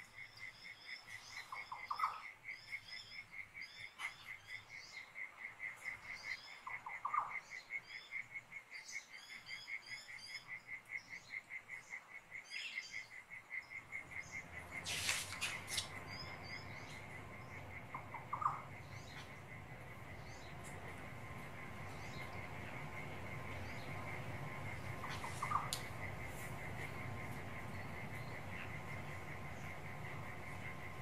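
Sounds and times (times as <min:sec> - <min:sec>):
birds calling and twittering: 0:00.0 - 0:31.0
crickets chirping: 0:00.0 - 0:31.0.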